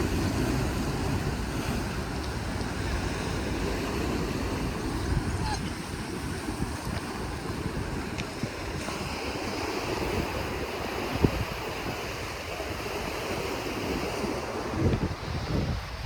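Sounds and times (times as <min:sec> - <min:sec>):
sea waves washing on shore: 0:00.0 - 0:16.0
wind on microphone: 0:00.0 - 0:16.0.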